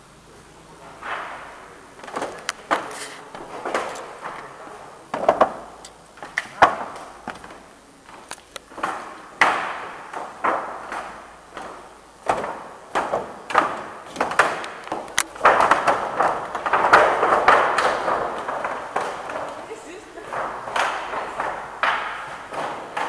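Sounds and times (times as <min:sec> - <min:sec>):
continuous rustle: 0:00.0 - 0:23.0.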